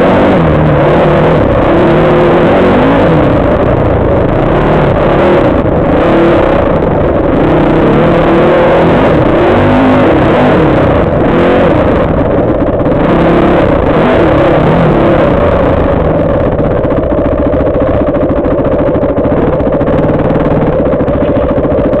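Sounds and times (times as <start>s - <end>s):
dirt bike engine revving and idling: 0.0s - 22.0s.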